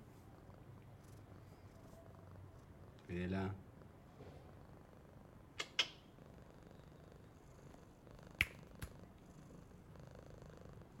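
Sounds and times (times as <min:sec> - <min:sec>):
cat purring: 0:00.2 - 0:11.0.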